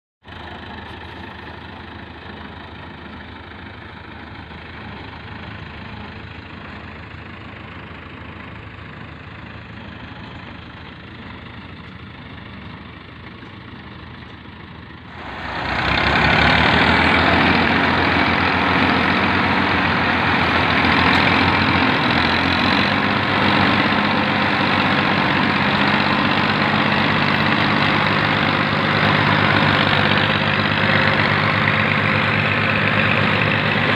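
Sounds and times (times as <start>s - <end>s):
tractor diesel engine: 0.2s - 33.9s.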